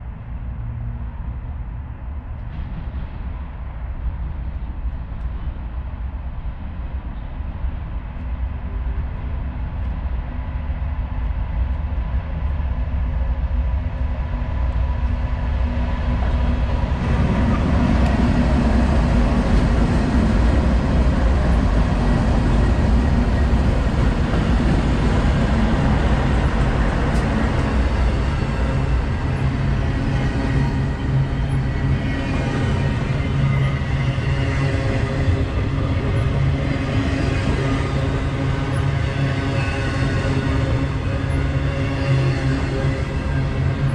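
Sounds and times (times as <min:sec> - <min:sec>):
diesel locomotive rumble: 0:00.0 - 0:43.9.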